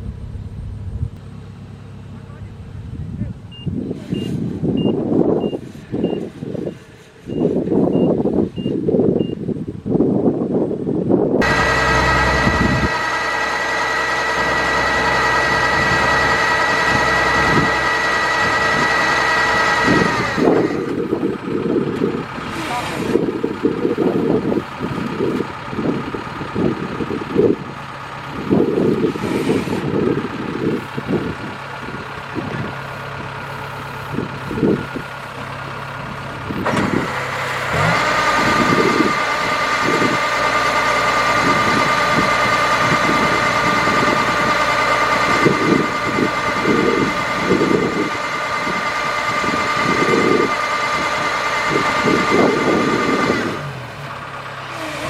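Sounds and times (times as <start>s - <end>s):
combine harvester rumbling: 0.0s - 55.0s.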